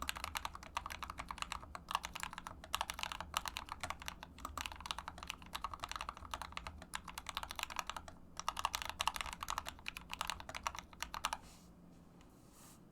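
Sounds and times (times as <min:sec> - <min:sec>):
keyboard keystroke clacks: 0:00.0 - 0:11.4.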